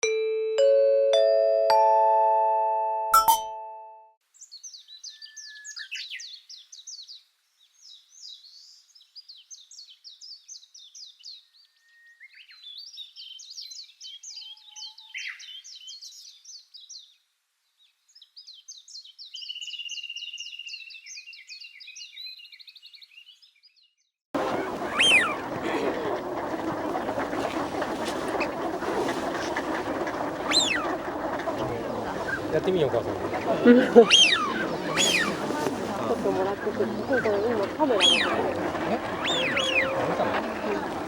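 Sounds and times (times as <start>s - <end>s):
songbird singing: 4.3s - 26.5s, 30.0s - 41.0s.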